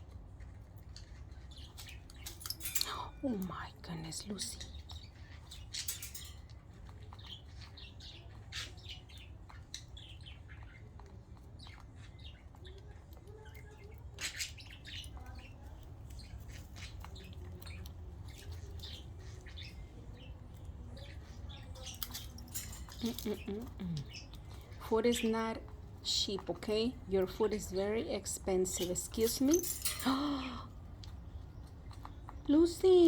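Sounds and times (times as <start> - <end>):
budgerigars chirping and chattering: 0.0 - 33.0.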